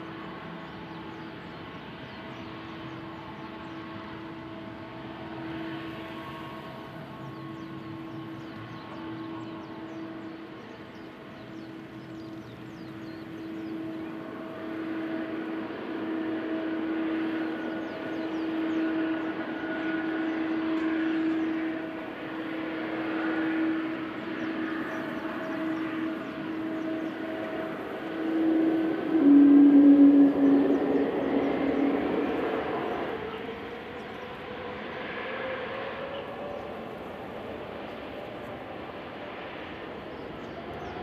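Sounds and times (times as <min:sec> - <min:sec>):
jet engines whining: 0:00.0 - 0:41.0.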